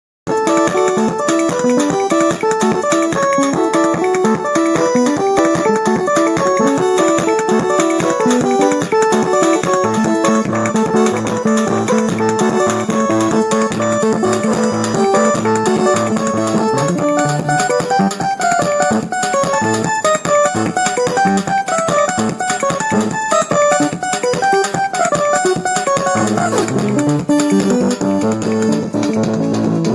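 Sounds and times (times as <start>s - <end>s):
live instrumental music: 0.3s - 29.9s.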